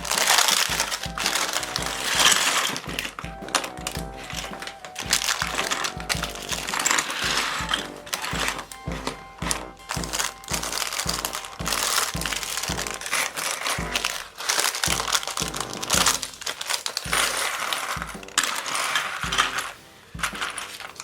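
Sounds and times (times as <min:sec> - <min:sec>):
music with steady bass beat: 0:00.0 - 0:21.0
plastic pieces rustling and clicking: 0:00.0 - 0:21.0.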